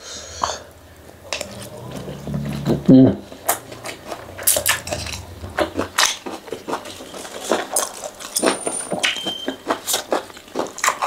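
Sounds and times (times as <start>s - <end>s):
chewing noodles: 1.0s - 11.0s.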